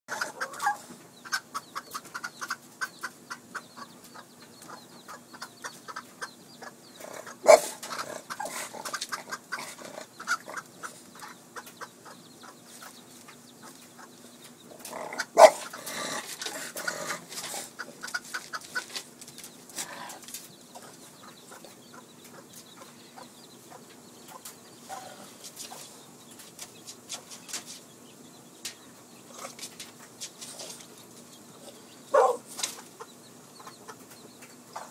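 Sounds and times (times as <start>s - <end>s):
faint steady hum: 0.1s - 34.9s
hen clucking: 0.1s - 34.9s.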